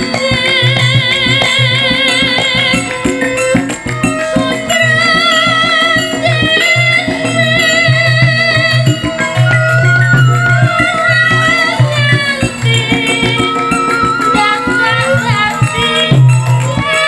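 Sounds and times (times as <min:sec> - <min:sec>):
drum beats: 0:00.0 - 0:17.0
gamelan music: 0:00.0 - 0:17.0.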